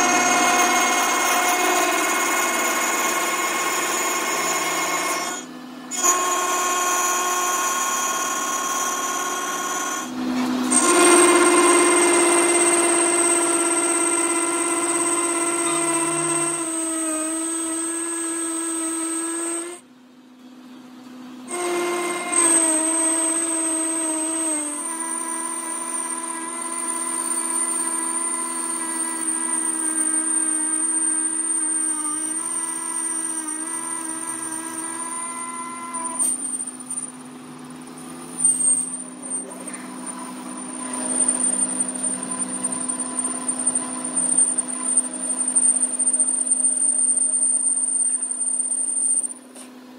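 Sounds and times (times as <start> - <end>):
lathe cutting whine: 0.0 - 19.8, 21.5 - 49.4.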